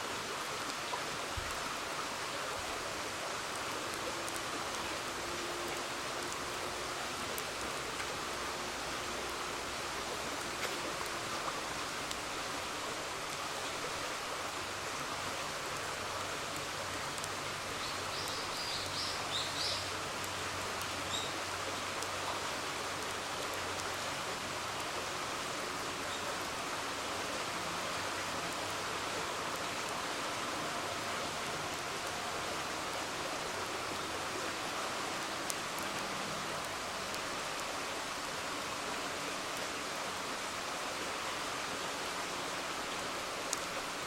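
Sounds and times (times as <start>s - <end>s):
river flowing: 0.0s - 44.0s
campfire crackling: 0.1s - 41.6s.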